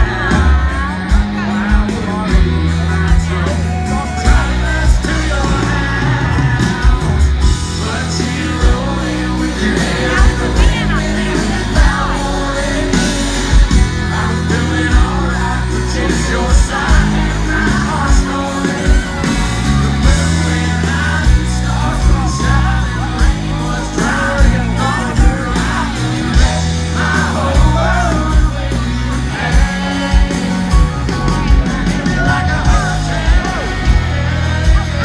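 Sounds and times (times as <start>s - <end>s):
crowd yelling along: 0.0s - 35.0s
live rock band playing: 0.0s - 35.0s
sung lead vocal: 0.0s - 35.0s.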